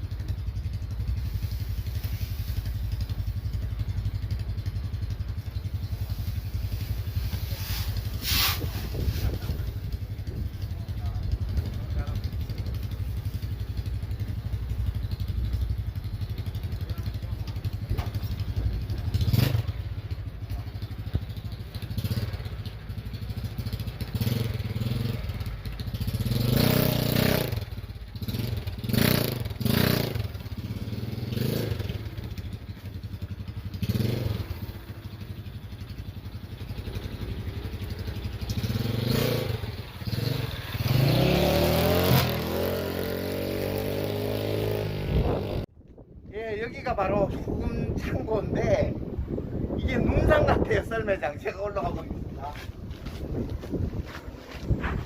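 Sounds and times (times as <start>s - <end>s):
motorcycle engine revving: 0.0s - 45.7s.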